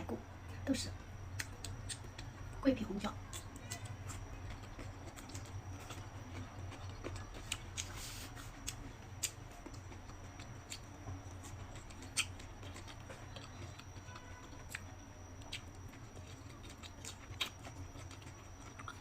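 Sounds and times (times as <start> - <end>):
steady low hum: 0.0 - 19.0
quiet chewing: 1.2 - 2.5, 3.1 - 19.0.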